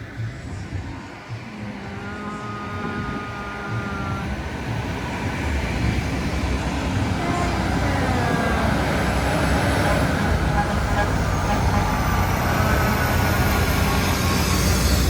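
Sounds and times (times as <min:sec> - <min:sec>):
heavy truck engine rumble: 0:00.0 - 0:15.0.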